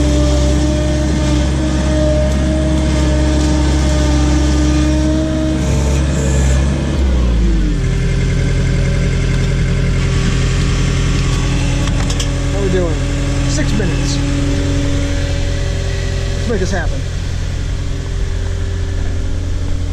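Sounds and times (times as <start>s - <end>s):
backhoe engine running: 0.0s - 19.9s
steady whine: 0.0s - 19.9s.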